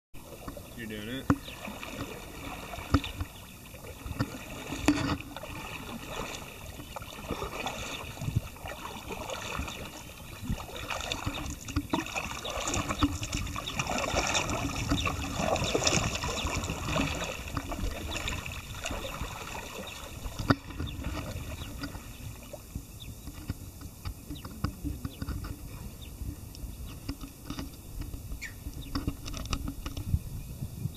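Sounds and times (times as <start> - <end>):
water lapping: 0.2 - 30.1
kayak paddles splashing: 0.2 - 30.2.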